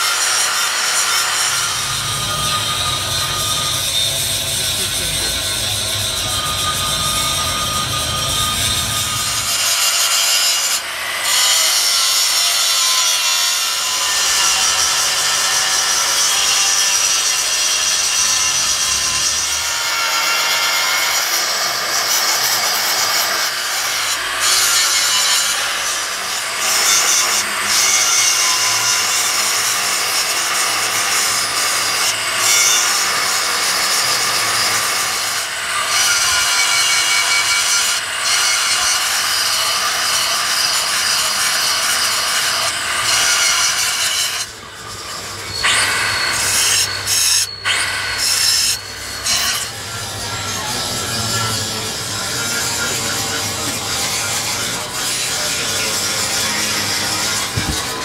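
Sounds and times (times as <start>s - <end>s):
angle grinder grinding metal: 0.0s - 58.0s.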